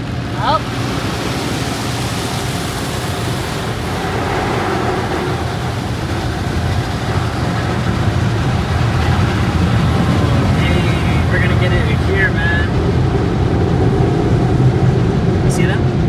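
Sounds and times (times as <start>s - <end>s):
water spraying against car: 0.0s - 15.7s
low rumble: 0.0s - 16.0s.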